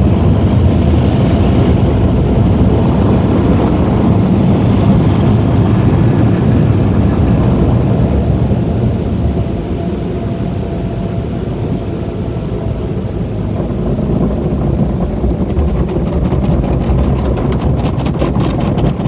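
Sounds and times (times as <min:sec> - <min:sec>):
car wash machinery rumbling: 0:00.0 - 0:19.0.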